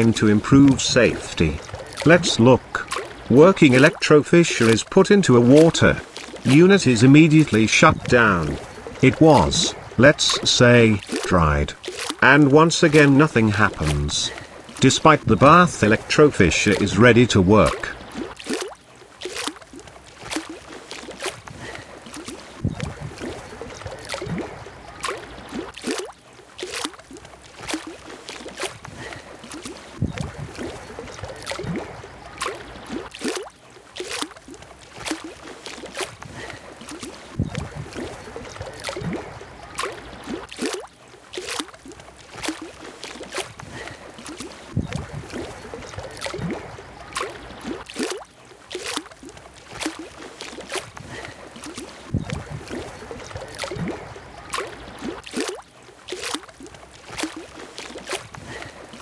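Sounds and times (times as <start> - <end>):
small splashes and clicks: 0.0 - 59.0
water lapping at shore: 0.0 - 59.0.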